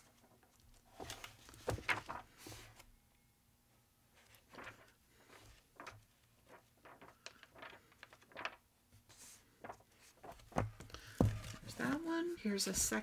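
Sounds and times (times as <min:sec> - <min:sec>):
book pages rustling and flicking: 0:00.0 - 0:02.9, 0:04.2 - 0:12.2.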